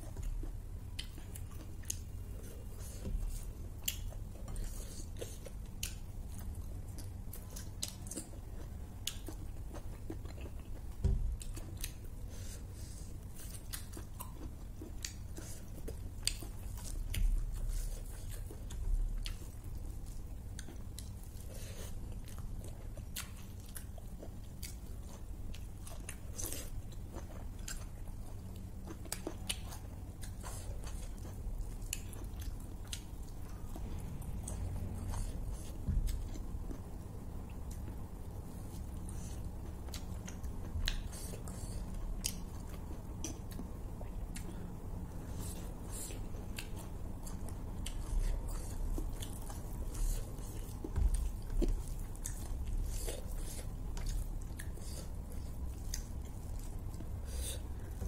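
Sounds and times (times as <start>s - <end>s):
chewing and biting: 0.0s - 58.0s.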